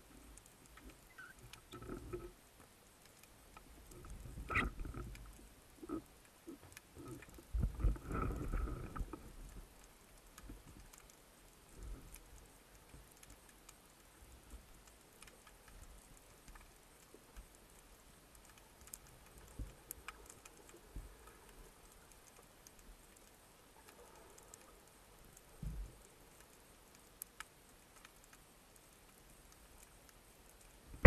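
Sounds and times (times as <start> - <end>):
low hiss: 0.0 - 31.0
underwater clicks and crackles: 0.0 - 31.0.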